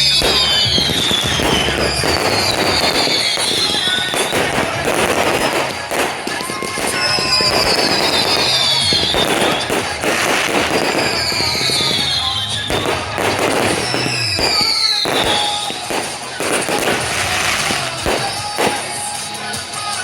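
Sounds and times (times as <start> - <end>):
falling firework whistles: 0.0 - 19.3
fireworks bangs and crackling: 0.0 - 20.0.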